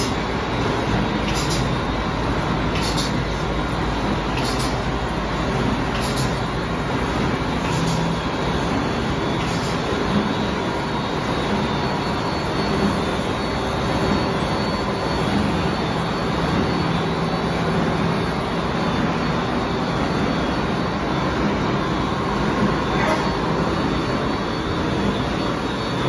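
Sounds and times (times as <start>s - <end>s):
production line machine noise: 0.0s - 26.0s.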